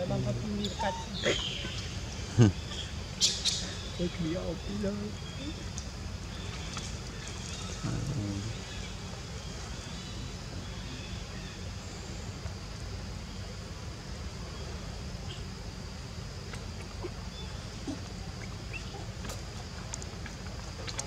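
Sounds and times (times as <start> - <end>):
insect hum: 0.0 - 21.0.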